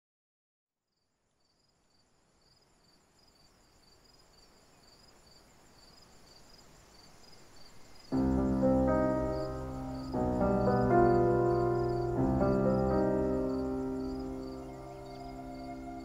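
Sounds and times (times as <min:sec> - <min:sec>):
crickets chirping: 0:00.9 - 0:16.0.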